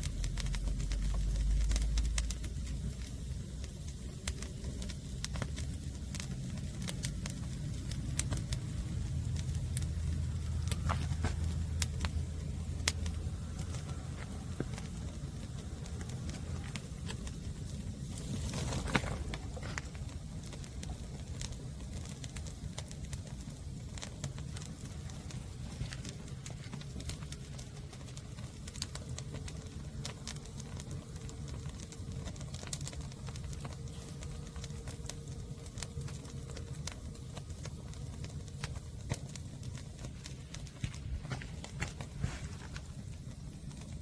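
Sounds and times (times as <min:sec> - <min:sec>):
firewood popping and crackling: 0:00.0 - 0:44.0
low rumble of fire: 0:00.0 - 0:44.0.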